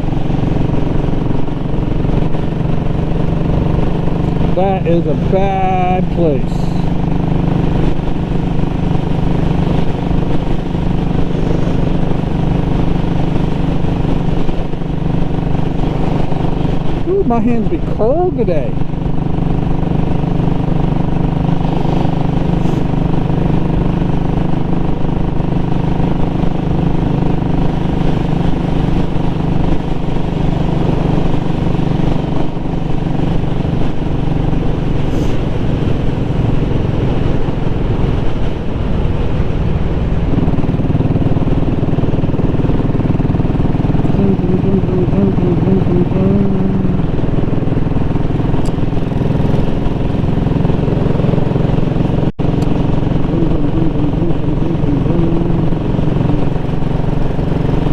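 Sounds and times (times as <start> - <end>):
motorcycle engine running: 0.0 - 57.9
road and wind noise: 0.0 - 57.9.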